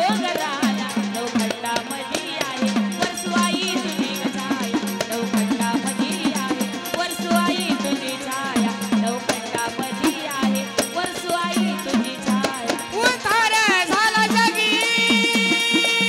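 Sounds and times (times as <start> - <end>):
person singing: 0.0 - 16.0.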